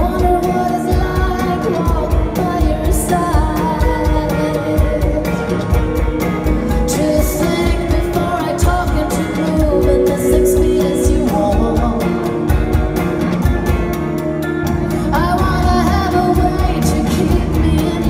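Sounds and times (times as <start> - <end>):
woman singing: 0.0 - 5.9, 6.6 - 12.8, 14.9 - 18.0
bass guitar: 0.0 - 18.0
drum kit: 0.0 - 18.0
electric guitar: 0.0 - 18.0.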